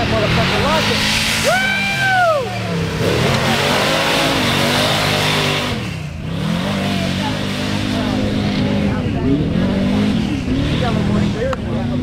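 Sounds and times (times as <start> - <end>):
truck engine revving in mud: 0.0 - 12.0.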